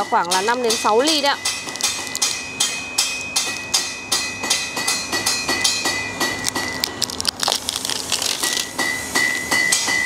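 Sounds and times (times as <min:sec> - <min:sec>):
hammer striking steel anvil: 0:00.0 - 0:06.8, 0:08.7 - 0:10.0.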